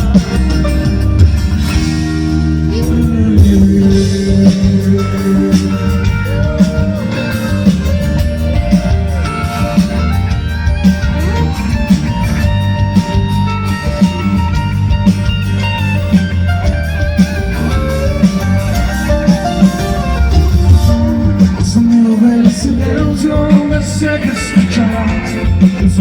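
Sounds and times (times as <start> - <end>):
pop-rock ballad instrumental: 0.0 - 26.0.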